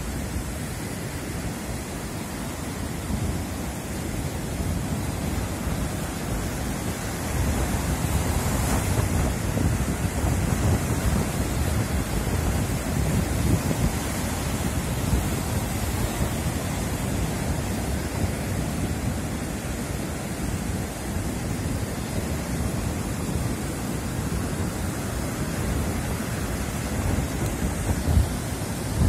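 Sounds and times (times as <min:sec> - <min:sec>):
surf breaking on sandy beach: 0:00.0 - 0:29.0
wind gusting on microphone: 0:00.0 - 0:29.0.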